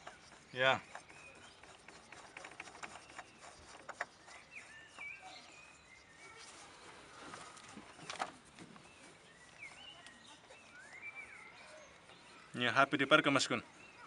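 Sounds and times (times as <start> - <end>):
bird chirps: 0.0 - 14.0.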